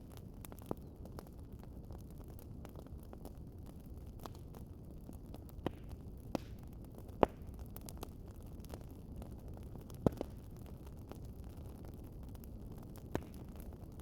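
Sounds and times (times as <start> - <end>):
fire crackles and pops: 0.0 - 14.0
wood fire rumble and hiss: 0.0 - 14.0.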